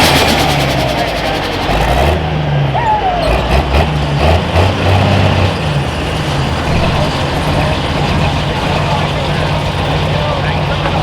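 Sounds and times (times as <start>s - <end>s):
tractor engine running loud: 0.0s - 11.0s.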